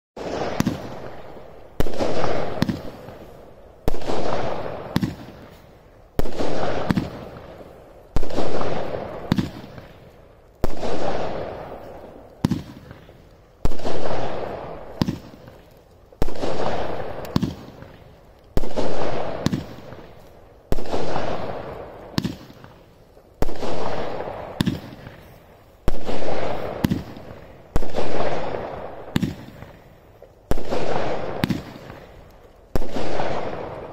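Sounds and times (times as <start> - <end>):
firework shots banging: 0.2 - 29.9, 30.5 - 33.9.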